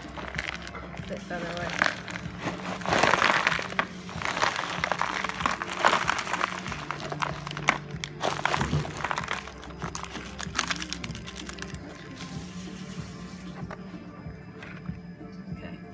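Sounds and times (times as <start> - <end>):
faint steady music: 0.0 - 15.9.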